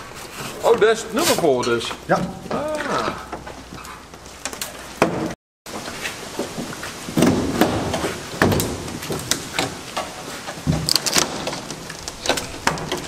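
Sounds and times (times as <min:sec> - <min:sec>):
knocks and clatters of handling: 0:00.0 - 0:13.0.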